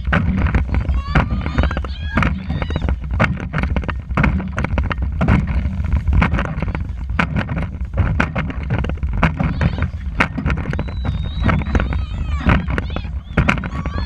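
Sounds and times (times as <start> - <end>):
low wind rumble on microphone: 0.0 - 14.0
paddles splashing and knocking: 0.0 - 14.0.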